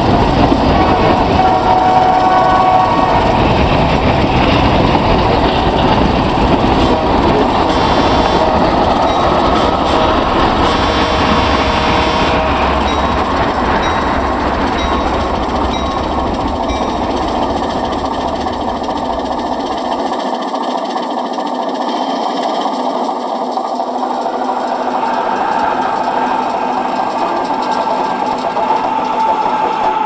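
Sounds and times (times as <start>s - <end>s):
model train rattling: 0.0s - 30.0s.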